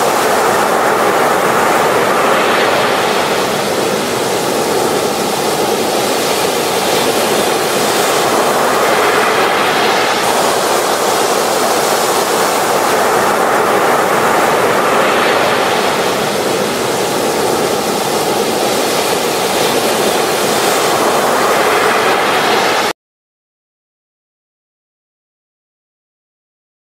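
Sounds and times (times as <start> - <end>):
ocean waves breaking: 0.0 - 22.9.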